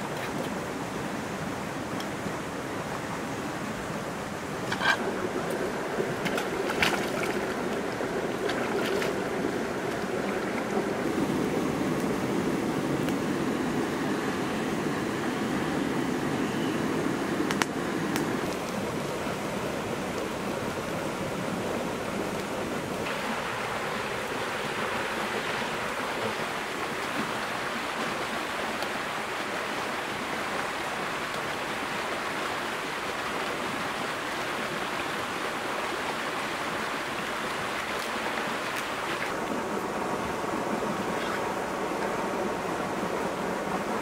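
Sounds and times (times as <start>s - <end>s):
rushing water: 0.0s - 44.0s.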